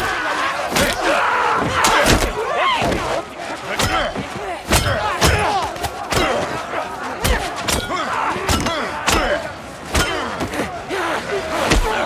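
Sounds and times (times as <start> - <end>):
men shouting and yelling: 0.0 - 12.0.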